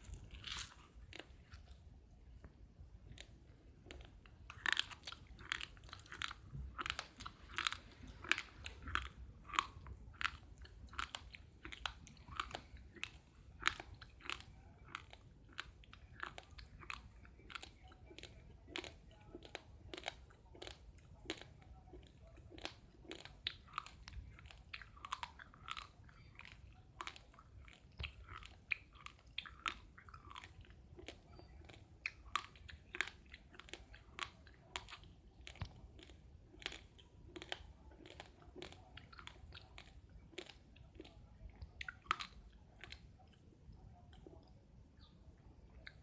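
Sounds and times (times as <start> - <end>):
chewing crunchy rice: 0.0 - 46.0.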